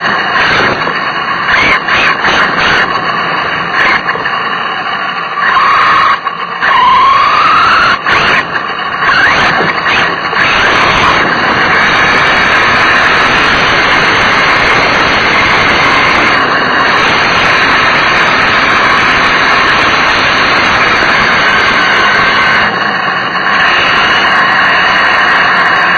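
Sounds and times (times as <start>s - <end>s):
high-revving nitro engine: 0.0s - 25.9s
rolling and wind noise: 0.0s - 25.9s.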